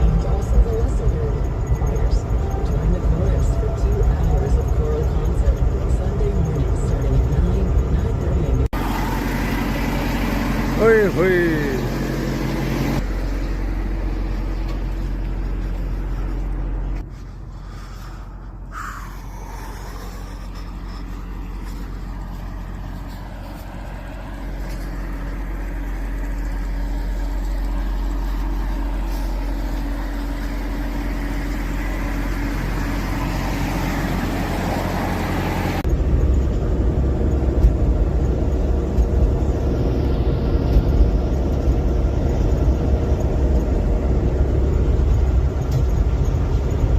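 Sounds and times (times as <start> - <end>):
road noise: 0.0 - 46.9
vehicle engine hum: 0.0 - 46.9.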